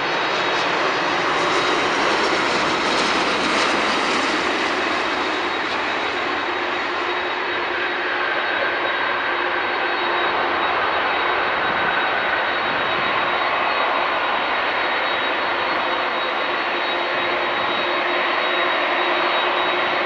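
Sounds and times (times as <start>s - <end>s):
high engine whine: 0.0s - 20.0s
jet engines rushing: 0.0s - 20.0s.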